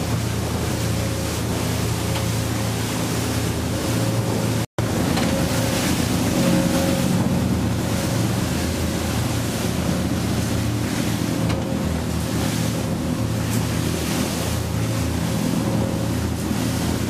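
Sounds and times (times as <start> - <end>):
powerboat engines droning: 0.0 - 17.0
wake and spray rushing: 0.0 - 17.0
wind buffeting microphone: 0.0 - 17.0.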